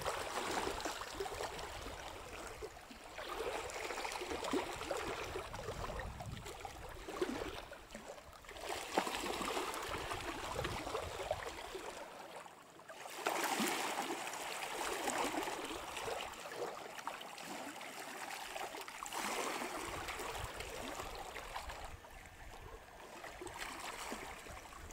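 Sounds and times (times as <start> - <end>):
rushing water: 0.0 - 24.9
wind: 0.0 - 24.9.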